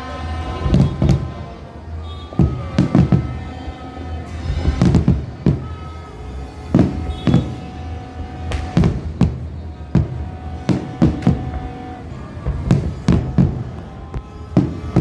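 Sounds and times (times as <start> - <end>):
fireworks banging: 0.0 - 15.0
music playing: 0.0 - 15.0.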